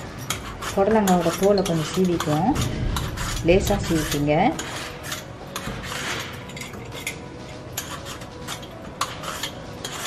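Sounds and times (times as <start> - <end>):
vegetable peeler scraping: 0.0 - 10.0.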